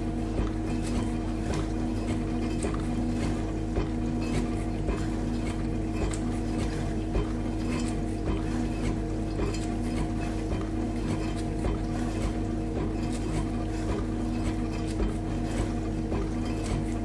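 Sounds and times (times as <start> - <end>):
dishwasher motor hum: 0.0 - 17.0
water spraying inside dishwasher: 0.0 - 17.0.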